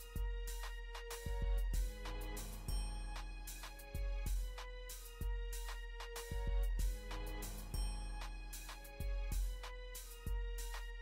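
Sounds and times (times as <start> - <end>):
melodic music over low beat: 0.0 - 11.0.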